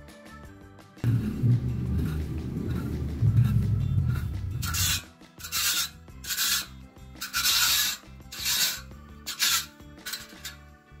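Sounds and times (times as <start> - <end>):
wire rake scraping concrete: 1.7 - 10.7.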